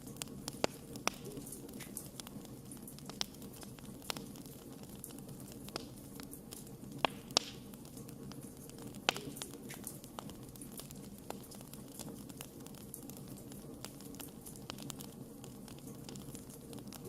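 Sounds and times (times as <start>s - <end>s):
campfire rumble and hiss: 0.0s - 17.0s
fire crackles and pops: 0.0s - 17.0s.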